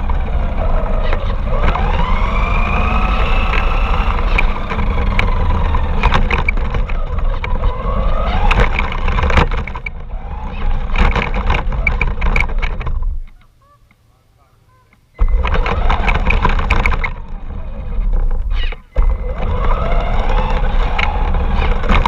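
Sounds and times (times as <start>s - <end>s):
toy car motor whining: 0.0s - 12.6s, 15.2s - 22.0s
sharp clicks and knocks: 0.0s - 14.0s, 14.9s - 22.0s
rumble of wheels on rough ground: 0.0s - 22.0s.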